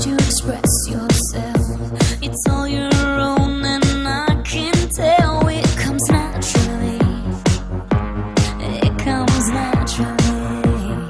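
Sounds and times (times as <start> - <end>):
kick drum: 0.0 - 11.0.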